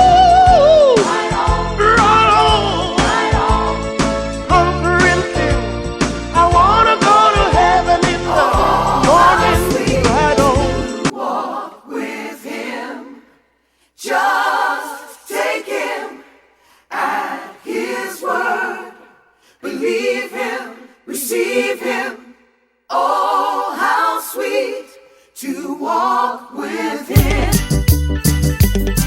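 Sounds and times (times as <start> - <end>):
a cappella gospel choir singing: 0.0 - 28.1.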